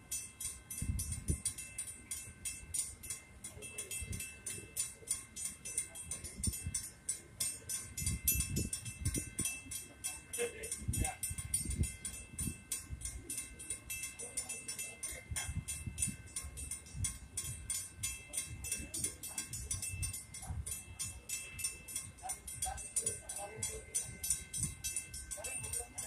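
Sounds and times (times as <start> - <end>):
crossing bell ringing rapidly: 0.0 - 26.0.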